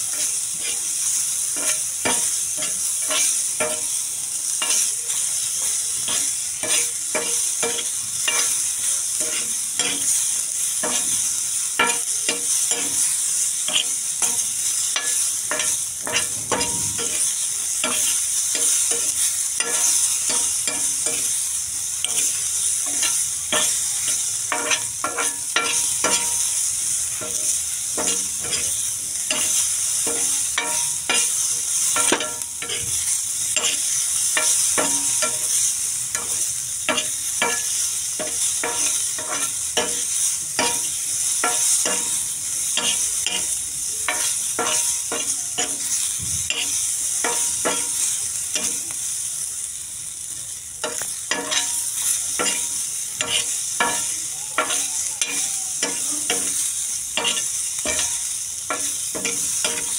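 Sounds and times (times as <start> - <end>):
vegetables sizzling in oil: 0.0 - 59.9
spoon scraping and knocking pan: 0.1 - 0.9, 1.5 - 3.9, 5.6 - 21.4, 22.0 - 48.8, 50.8 - 56.6, 57.2 - 59.9.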